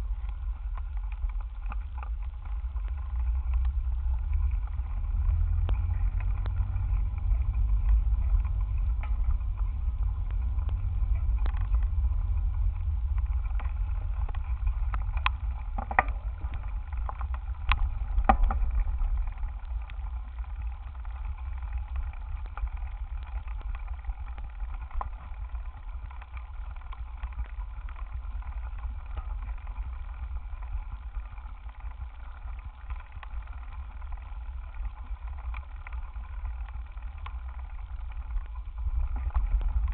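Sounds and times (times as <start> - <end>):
bicycle ride vibration rumble: 0.0 - 39.9.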